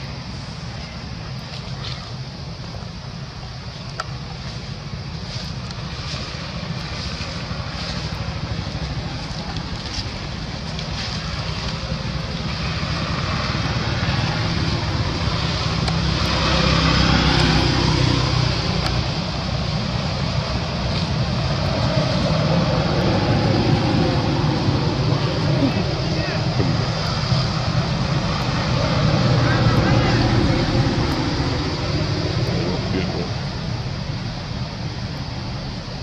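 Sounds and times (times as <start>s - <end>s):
vehicle noise approaching: 0.0s - 36.0s.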